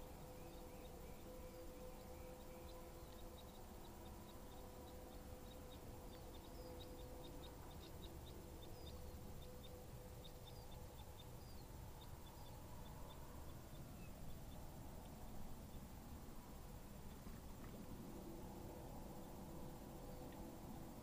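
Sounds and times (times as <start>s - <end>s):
faint low hum: 0.0s - 21.0s
small birds chirping: 0.0s - 21.0s.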